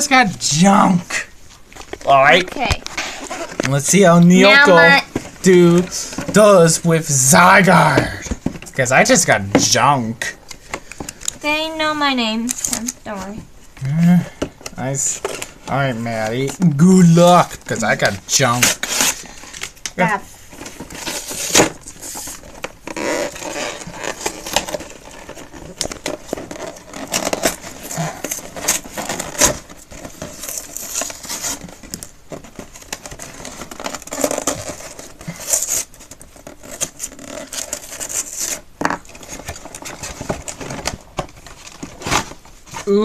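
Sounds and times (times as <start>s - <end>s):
packaging rustling and tearing: 0.4s - 11.4s, 12.4s - 13.4s, 14.7s - 43.0s.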